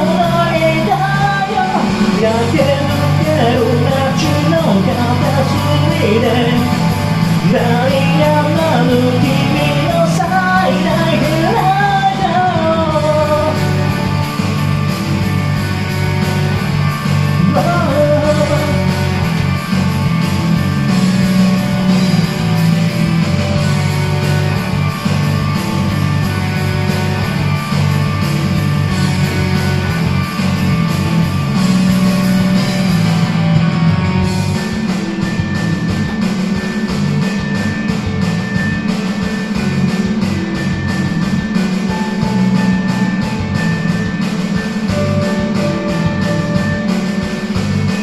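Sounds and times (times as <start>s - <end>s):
drums: 0.0s - 48.0s
electric guitars: 0.0s - 48.0s.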